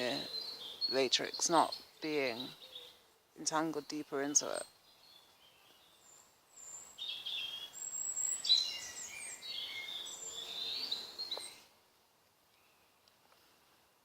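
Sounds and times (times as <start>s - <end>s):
songbirds singing: 0.0s - 11.8s, 12.4s - 13.2s.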